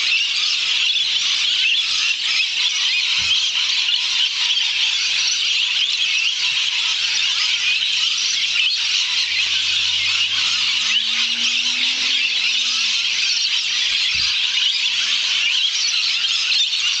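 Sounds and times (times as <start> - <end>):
flock of lorikeets screeching: 0.0 - 17.0.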